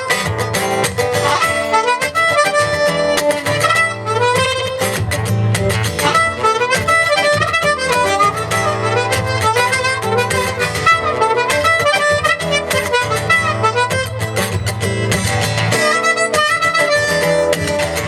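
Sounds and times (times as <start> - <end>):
harmonica melody: 0.0 - 18.0
strummed acoustic guitar: 0.0 - 18.0.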